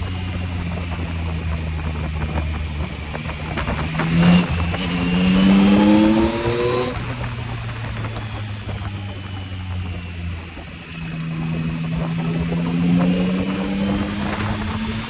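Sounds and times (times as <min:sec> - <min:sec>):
motorcycle engine revving: 0:00.0 - 0:15.0
wind rushing: 0:00.5 - 0:15.0.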